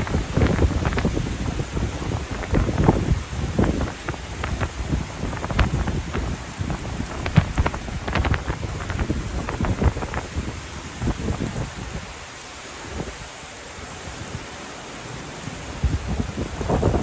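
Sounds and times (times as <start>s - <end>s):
heavy rain pouring: 0.0s - 17.0s
wind rumbling on microphone: 0.0s - 17.0s.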